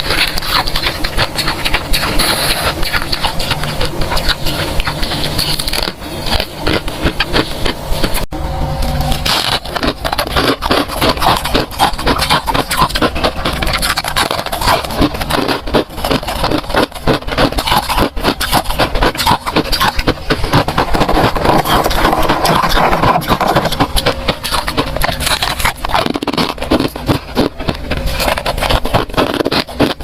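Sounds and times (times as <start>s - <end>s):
freezer frost being scraped: 0.0s - 8.3s, 9.1s - 30.0s.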